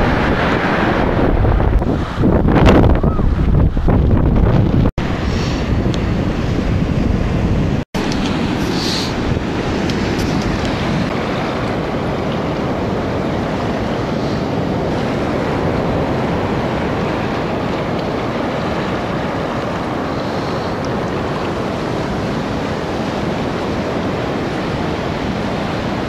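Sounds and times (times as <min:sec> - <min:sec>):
surf breaking on rocky shore: 0:00.0 - 0:26.0
wind noise on microphone: 0:00.0 - 0:26.0.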